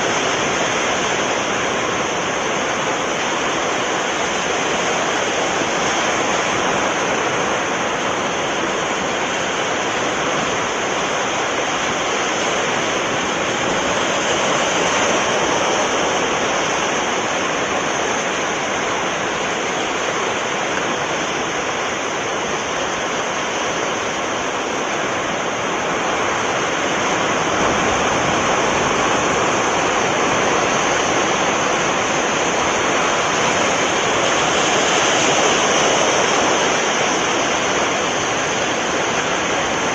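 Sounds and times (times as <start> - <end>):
sea surf washing ashore: 0.0 - 39.9.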